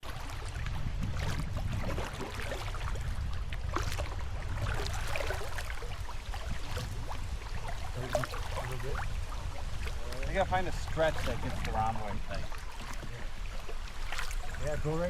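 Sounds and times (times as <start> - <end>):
water splashing and gurgling: 0.0 - 15.0.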